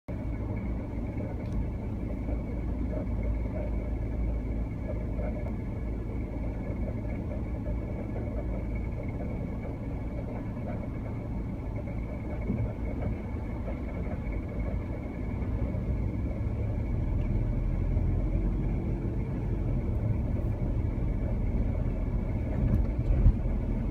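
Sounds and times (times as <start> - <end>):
car engine rumble: 0.1 - 23.9.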